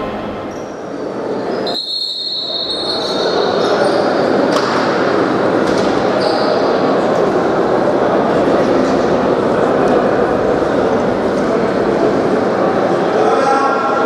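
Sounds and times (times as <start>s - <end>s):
echoing crowd and player voices: 0.0s - 14.0s.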